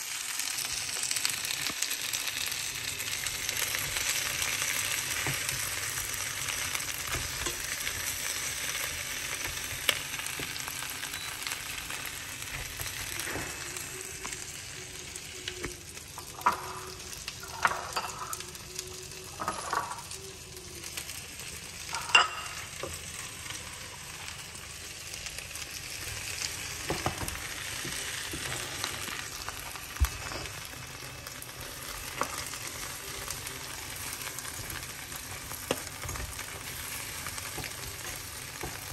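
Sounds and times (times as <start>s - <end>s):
prawns sizzling in oil: 0.0s - 38.9s.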